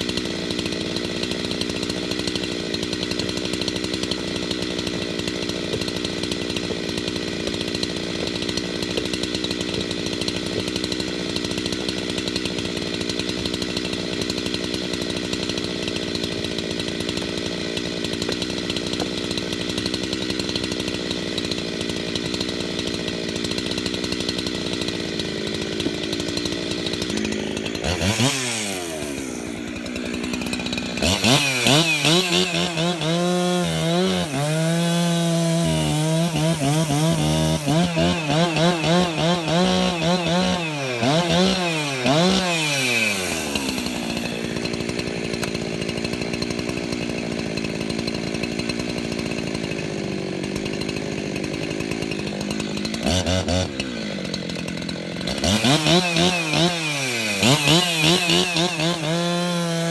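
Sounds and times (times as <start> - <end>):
chainsaw running at high revs: 0.0 - 59.9.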